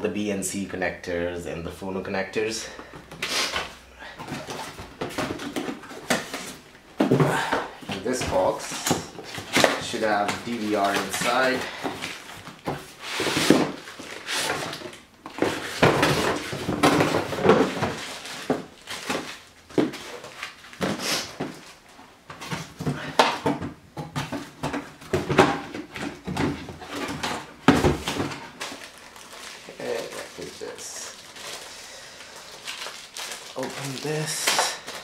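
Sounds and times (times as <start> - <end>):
cardboard and foam rustling: 2.8 - 35.0.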